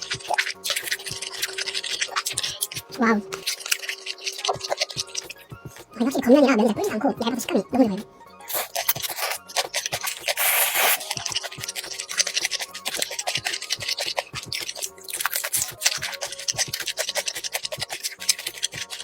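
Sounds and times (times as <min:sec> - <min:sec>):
quiet background music: 0:00.0 - 0:19.0
wet chewing of noodles: 0:00.0 - 0:19.0.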